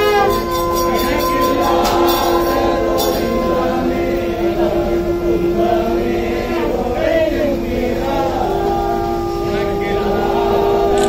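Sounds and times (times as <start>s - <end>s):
crowd chanting and singing: 0.0s - 11.0s
held drone note: 0.0s - 11.0s.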